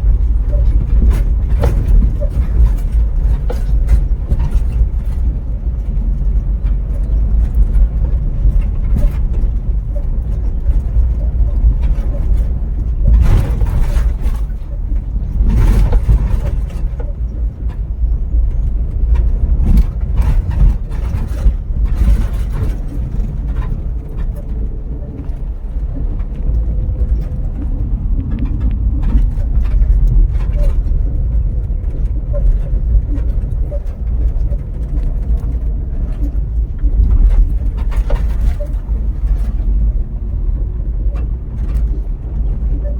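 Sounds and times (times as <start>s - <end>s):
vehicle driving rumble: 0.0s - 42.9s
vehicle rushes and bumps: 0.0s - 42.9s.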